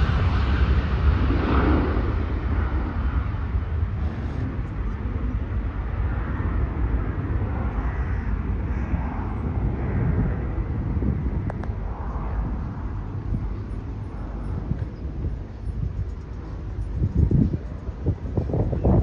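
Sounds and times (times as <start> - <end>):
jet airliner engine rumble: 0.0 - 19.0.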